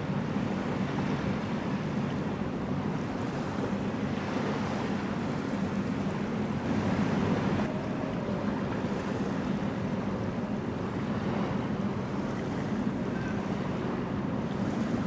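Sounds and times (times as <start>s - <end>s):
water: 0.0s - 15.0s.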